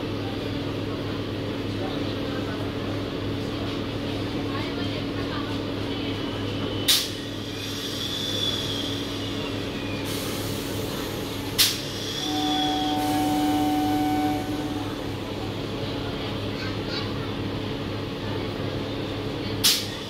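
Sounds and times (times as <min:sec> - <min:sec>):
electric train hum: 0:00.0 - 0:20.0.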